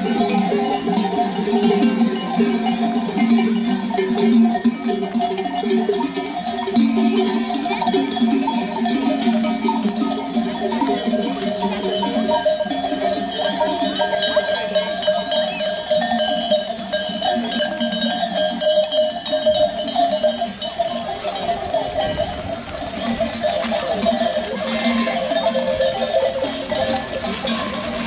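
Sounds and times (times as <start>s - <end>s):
sheep bells clanking: 0.0s - 28.0s.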